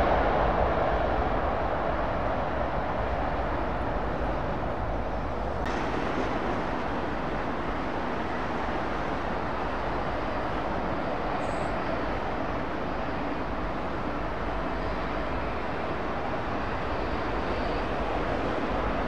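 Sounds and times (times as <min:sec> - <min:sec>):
airliner on ground noise: 0:00.0 - 0:19.0
jet airliner landing noise: 0:00.0 - 0:19.0.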